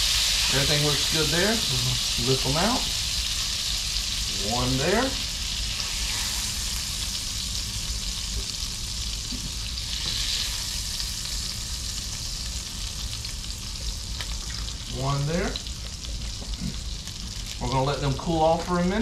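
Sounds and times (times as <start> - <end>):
fish sizzling in a skillet: 0.0 - 19.0.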